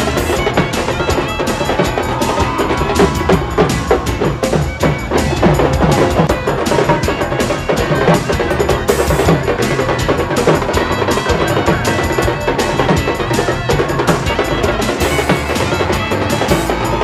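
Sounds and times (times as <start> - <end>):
loud music with fast drum beat: 0.0 - 17.0.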